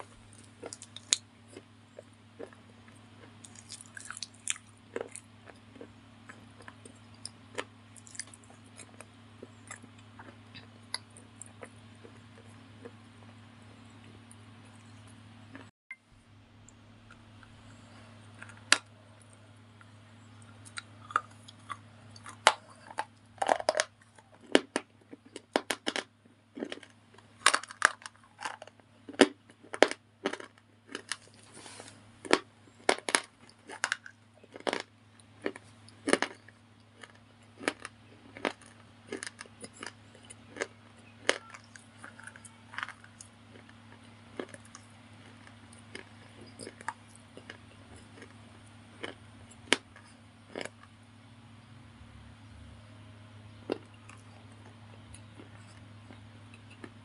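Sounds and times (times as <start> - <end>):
slate bars crunching: 0.0 - 13.0, 17.0 - 50.9, 53.6 - 57.0.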